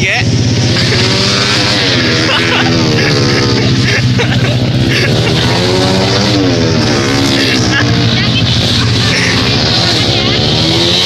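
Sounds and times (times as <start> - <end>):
racing motorcycle engine revving: 0.0 - 11.0.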